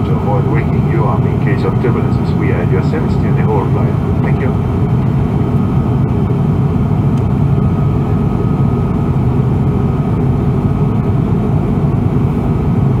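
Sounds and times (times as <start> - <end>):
airplane cabin engine noise: 0.0 - 13.0
faint steady whine: 0.0 - 13.0.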